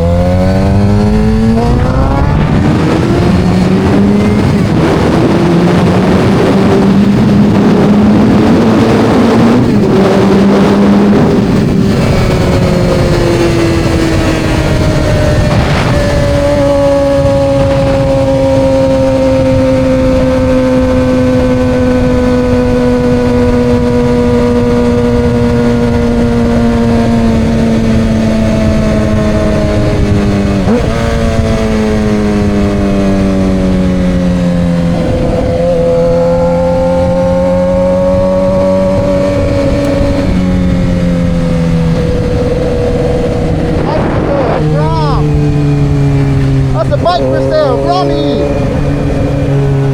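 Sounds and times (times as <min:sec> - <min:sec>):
motorcycle engine at steady throttle: 0:00.0 - 0:49.9
wind and road noise: 0:00.0 - 0:49.9.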